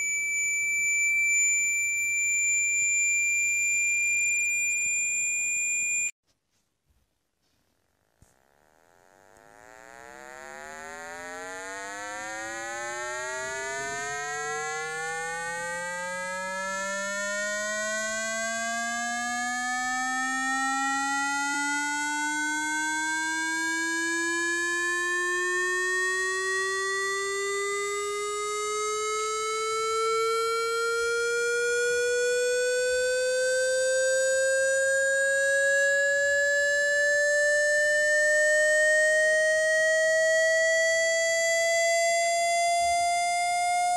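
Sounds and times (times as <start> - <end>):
buzzy electronic tone rising in pitch: 0.0 - 6.0, 8.4 - 43.9.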